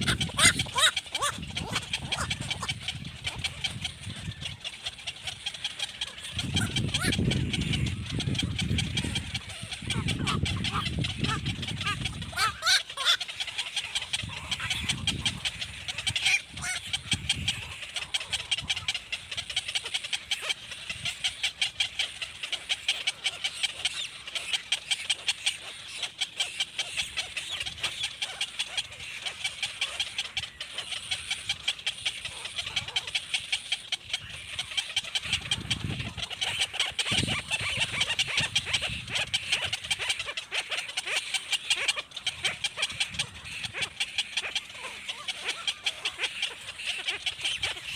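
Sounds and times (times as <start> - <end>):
baby birds chirping: 0.0 - 47.9.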